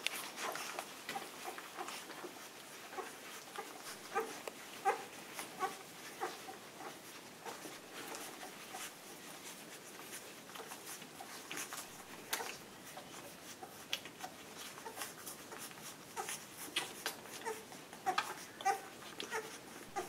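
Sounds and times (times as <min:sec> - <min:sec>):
puppies suckling: 0:00.0 - 0:20.0.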